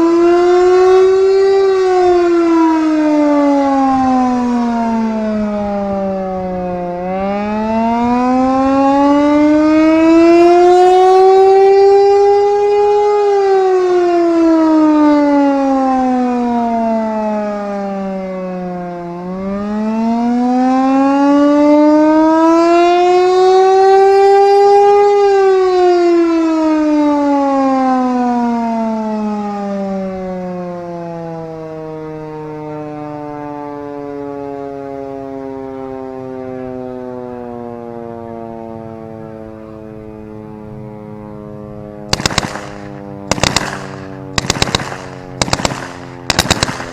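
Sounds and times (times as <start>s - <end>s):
air raid siren wailing: 0.0s - 46.9s.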